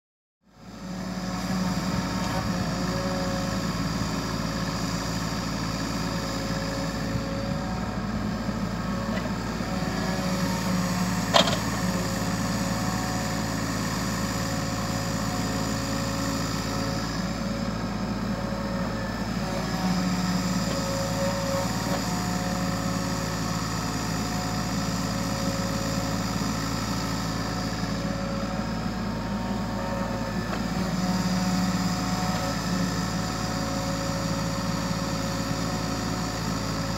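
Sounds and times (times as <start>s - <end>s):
excavator diesel engine running: 0.5s - 36.9s.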